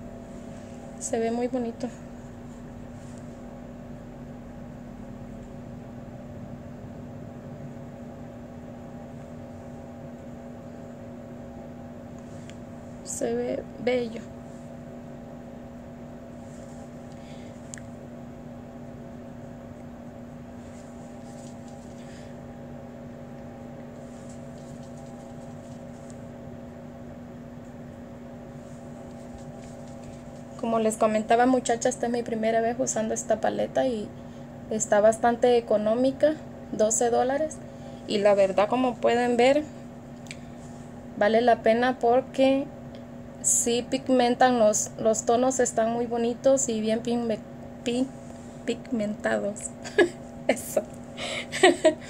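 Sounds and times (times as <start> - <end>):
room hum: 0.0 - 52.0.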